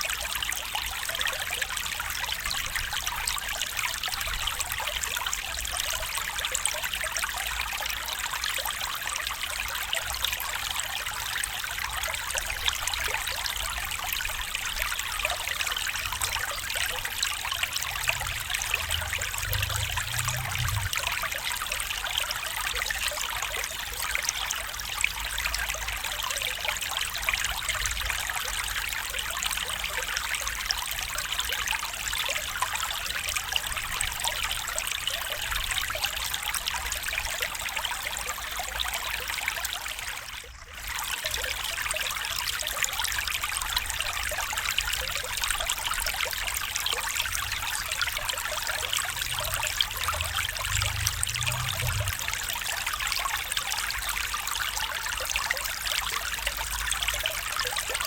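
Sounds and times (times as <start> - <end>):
stream trickling and burbling: 0.0 - 58.0.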